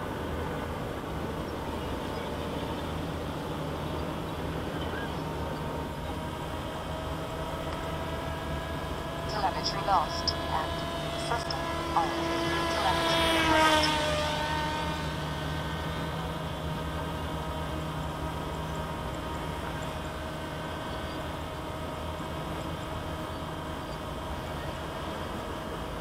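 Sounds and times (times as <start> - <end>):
electric motor and propeller droning: 0.0 - 26.0.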